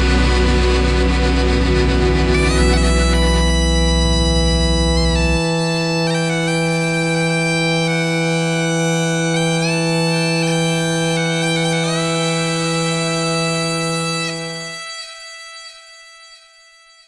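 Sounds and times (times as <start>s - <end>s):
bagpipe drone and melody: 0.0s - 17.0s.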